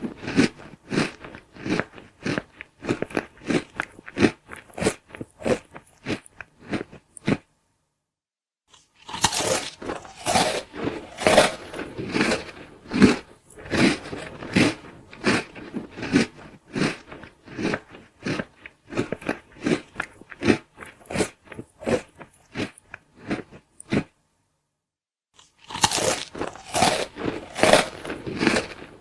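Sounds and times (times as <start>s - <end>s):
person chewing food: 0.0s - 7.5s, 8.7s - 24.2s, 25.4s - 29.0s.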